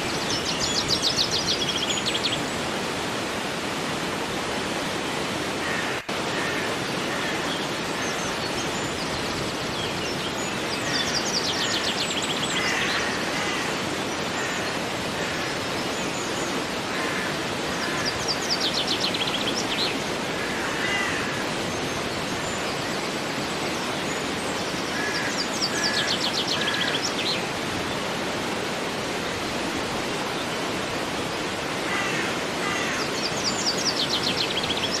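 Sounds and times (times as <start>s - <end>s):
river flowing: 0.0s - 35.0s.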